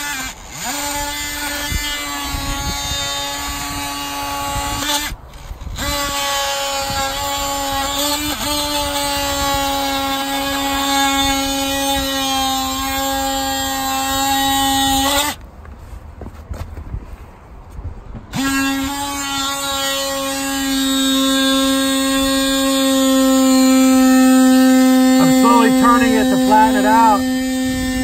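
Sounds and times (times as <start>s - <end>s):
oscillating multi-tool whine: 0.0s - 15.4s, 18.3s - 28.0s.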